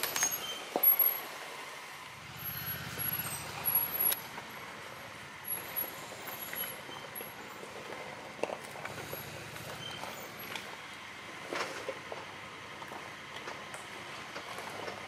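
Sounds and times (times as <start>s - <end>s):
atv engine running at low speed: 0.0s - 15.0s.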